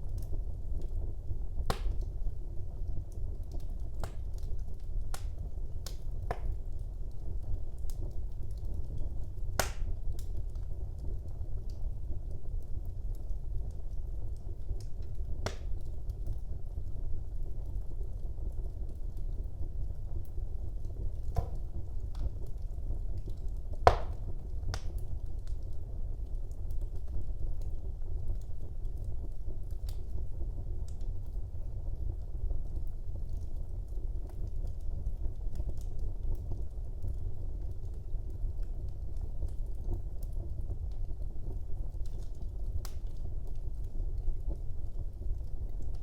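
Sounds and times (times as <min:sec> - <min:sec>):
fire crackling and popping: 0:00.0 - 0:46.0
low rumble of flames: 0:00.0 - 0:46.0.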